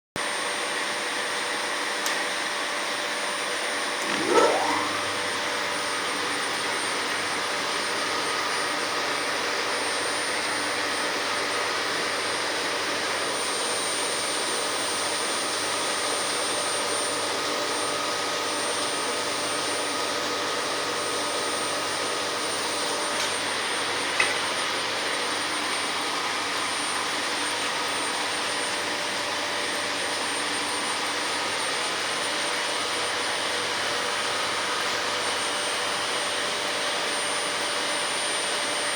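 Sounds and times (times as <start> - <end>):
lathe running with high whine: 0.3 - 38.9.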